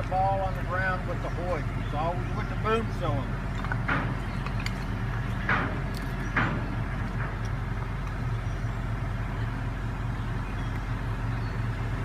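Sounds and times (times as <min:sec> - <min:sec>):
crane diesel engine running: 0:00.0 - 0:12.0.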